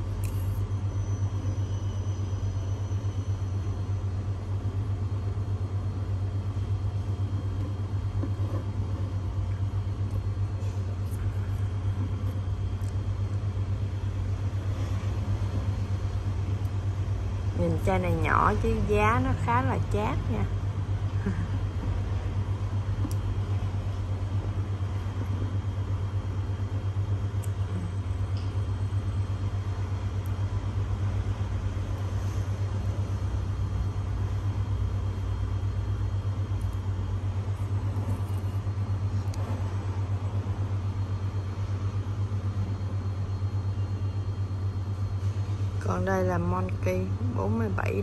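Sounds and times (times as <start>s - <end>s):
shop background hum: 0.0s - 48.0s.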